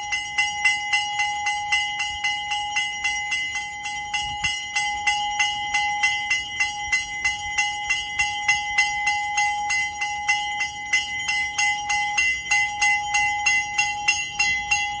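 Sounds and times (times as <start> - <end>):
temple bell ringing rapidly: 0.0 - 15.0.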